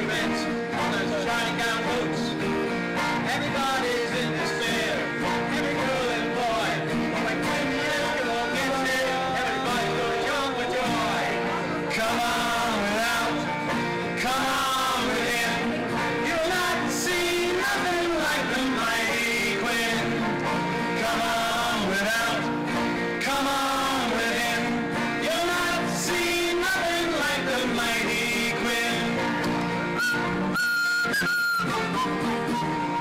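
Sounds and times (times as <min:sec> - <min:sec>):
person singing: 0:00.0 - 0:30.4
acoustic guitars strumming: 0:00.0 - 0:33.0
banjo: 0:00.0 - 0:33.0.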